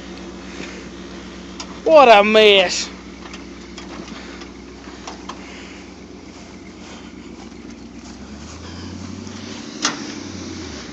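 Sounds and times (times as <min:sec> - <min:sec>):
deeper engine note: 0:00.0 - 0:10.9
engine idling: 0:00.0 - 0:10.9.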